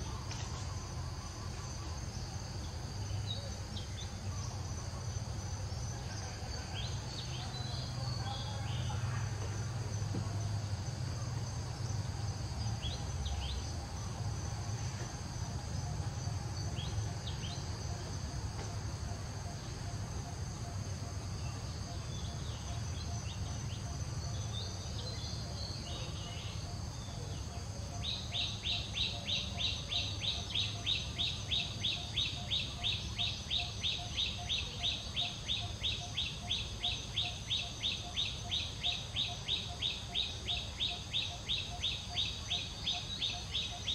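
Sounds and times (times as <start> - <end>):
high insect drone: 0.0 - 43.9.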